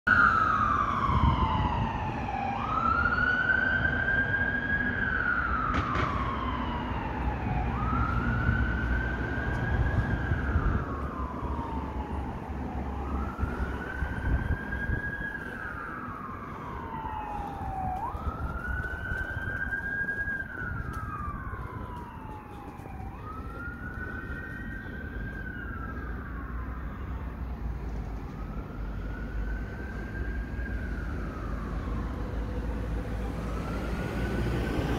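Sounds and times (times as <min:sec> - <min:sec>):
ambulance siren wailing: 0:00.1 - 0:34.9
low traffic rumble: 0:00.1 - 0:34.9.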